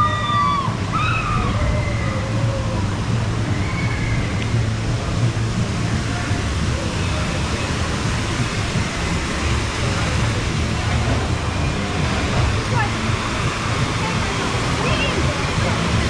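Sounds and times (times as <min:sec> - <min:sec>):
distant voices: 0:00.0 - 0:16.0
rushing water features: 0:00.0 - 0:16.0.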